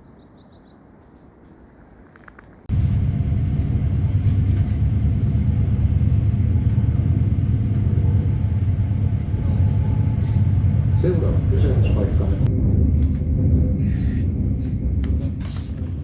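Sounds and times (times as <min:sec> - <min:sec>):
vehicle rumbling in motion: 0:01.6 - 0:16.0.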